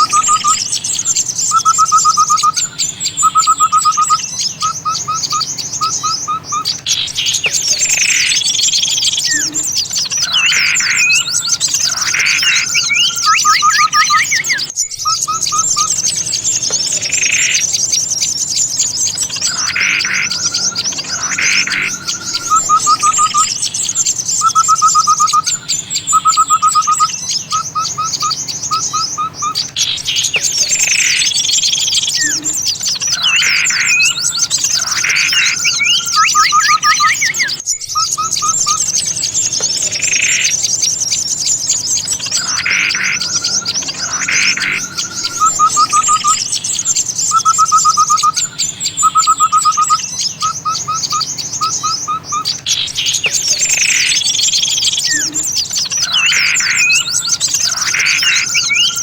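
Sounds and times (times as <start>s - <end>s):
constant high trill: 0.0s - 59.0s
small songbirds chirping: 0.0s - 59.0s.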